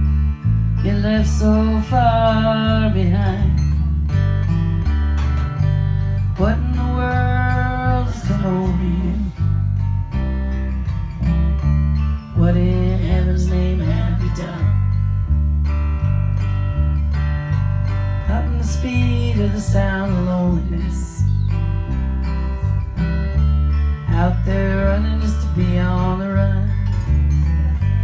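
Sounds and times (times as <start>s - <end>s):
bass line: 0.0s - 28.0s
guitar: 0.0s - 28.0s.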